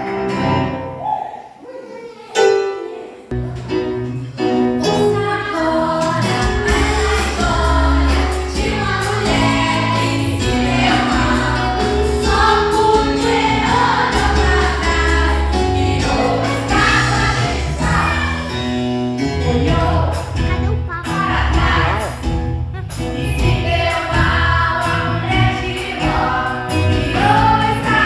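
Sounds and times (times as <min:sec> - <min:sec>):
instrumental backing with bass: 0:03.3 - 0:28.0
choir singing gospel: 0:04.6 - 0:28.0.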